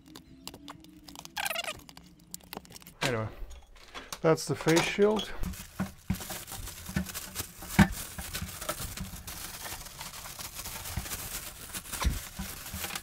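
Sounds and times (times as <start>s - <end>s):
plastic film crinkling: 0.0s - 3.0s, 4.8s - 13.0s.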